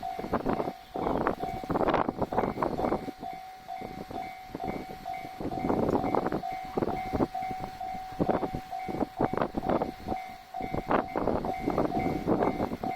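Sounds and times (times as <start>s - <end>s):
level crossing bell ringing: 0.0s - 1.8s, 2.9s - 12.9s.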